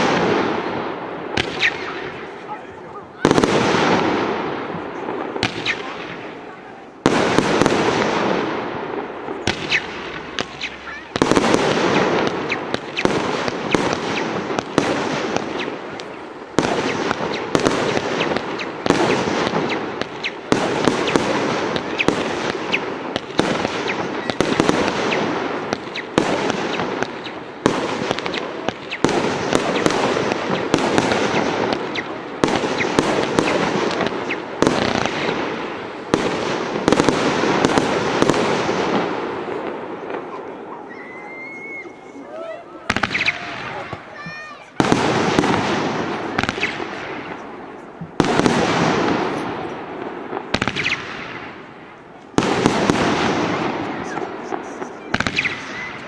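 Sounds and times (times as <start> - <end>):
fireworks bangs: 0.0 - 56.0
fireworks crackle and hiss: 0.0 - 56.0.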